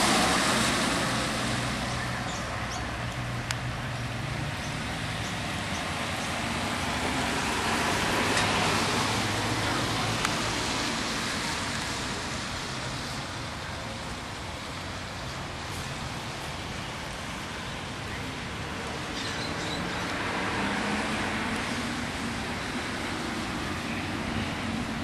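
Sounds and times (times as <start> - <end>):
steady rush of noise: 0.0 - 25.0.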